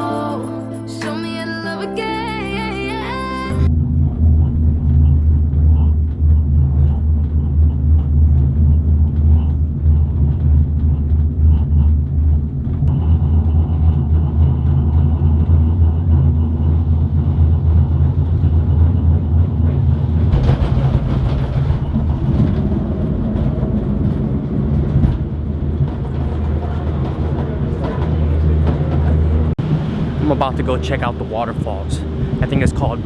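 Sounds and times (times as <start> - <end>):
cable car low rumble: 2.5 - 33.0.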